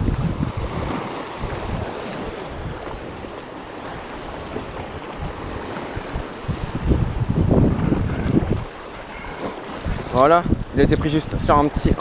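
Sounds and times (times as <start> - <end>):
surf washing against rocks: 0.0 - 12.0
wind rumbling on microphone: 0.0 - 12.0.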